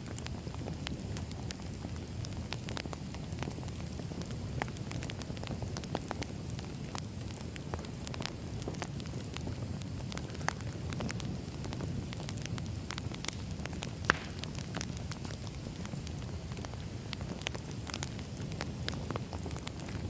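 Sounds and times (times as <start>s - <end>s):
firewood crackling and popping: 0.0s - 20.0s
low rumble of flame: 0.0s - 20.0s.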